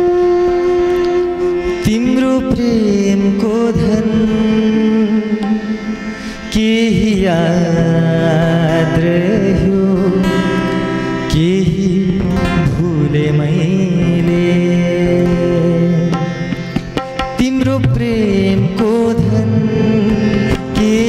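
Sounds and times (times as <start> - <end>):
guitar: 0.0 - 21.0
harmonium chords: 0.0 - 21.0
person singing: 0.0 - 21.0
tabla: 0.0 - 21.0
violin melody: 0.0 - 21.0.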